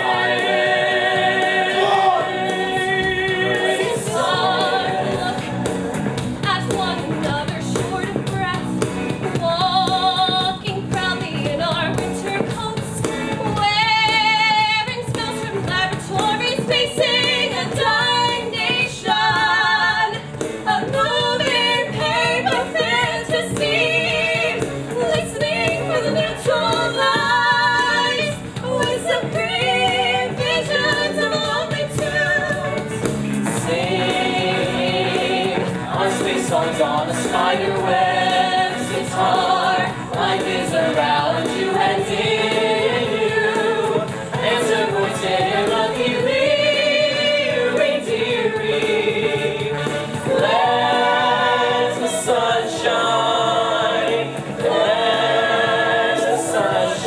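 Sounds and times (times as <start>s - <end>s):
men and women singing together: 0.0s - 8.3s, 9.3s - 57.0s
musical accompaniment: 0.0s - 57.0s.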